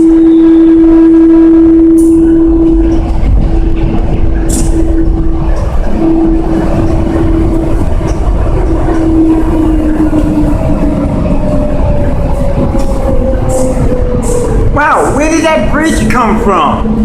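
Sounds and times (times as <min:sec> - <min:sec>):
steady whine: 0:00.0 - 0:17.0
train rumble: 0:00.0 - 0:17.0.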